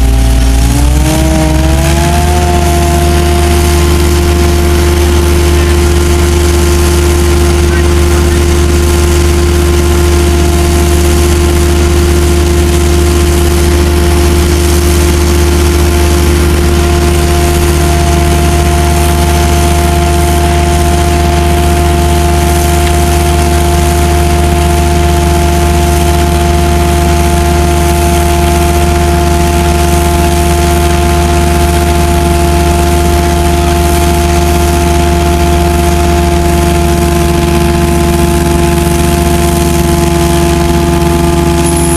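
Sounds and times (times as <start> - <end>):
machine drone with hum: 0.0 - 41.9
machine whine: 0.0 - 41.9.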